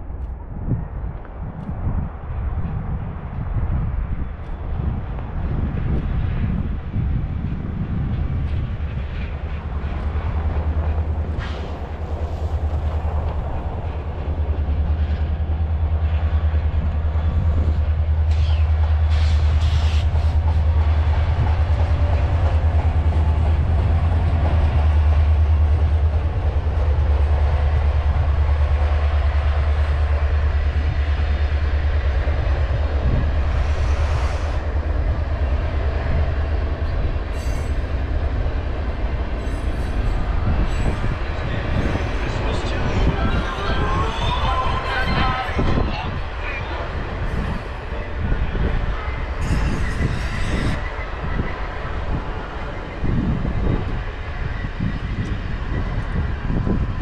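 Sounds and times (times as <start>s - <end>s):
train rolling over rails: 0.0s - 57.0s.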